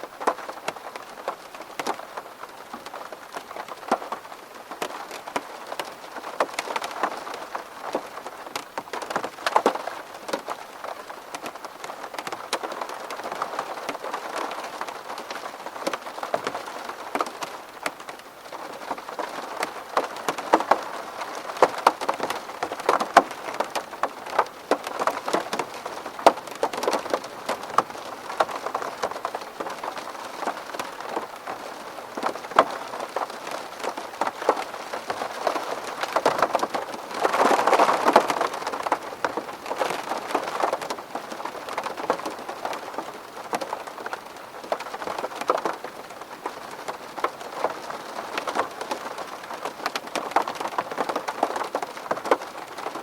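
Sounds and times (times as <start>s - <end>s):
rain tapping on window glass: 0.0s - 53.0s.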